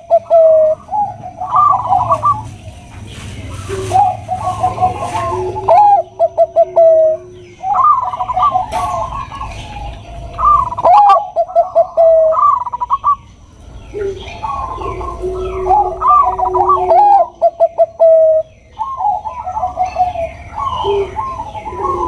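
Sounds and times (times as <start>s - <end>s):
doves cooing: 0.0s - 22.0s
small birds chirping: 0.0s - 22.0s.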